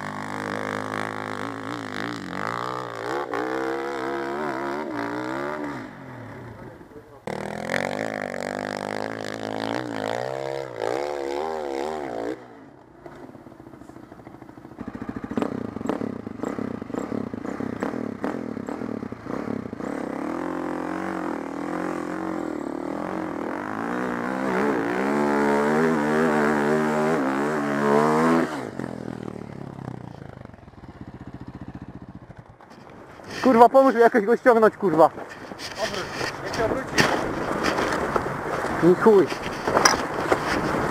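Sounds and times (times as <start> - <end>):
motorcycle engine revving: 0.0 - 34.6.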